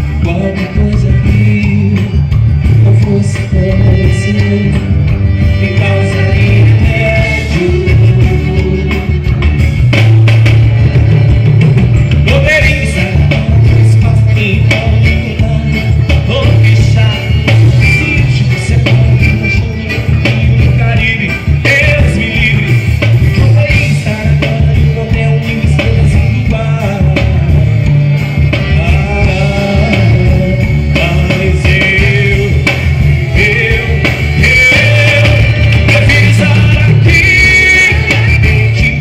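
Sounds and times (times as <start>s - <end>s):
folk band playing dance music: 0.0s - 39.0s.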